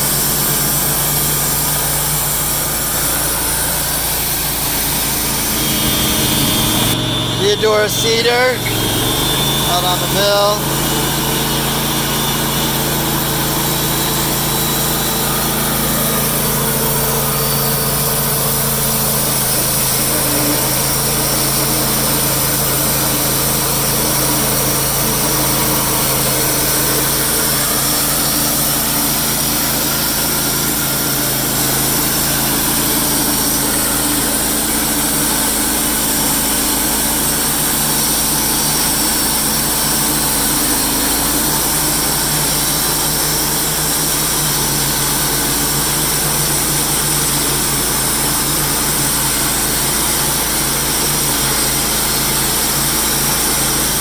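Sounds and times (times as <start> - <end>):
band sawmill running: 0.0 - 54.0.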